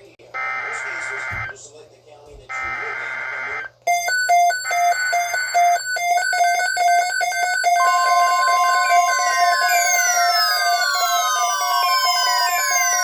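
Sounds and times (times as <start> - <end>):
rapid electronic alarm beeps: 2.5 - 13.0
steady alarm tone: 2.5 - 13.0.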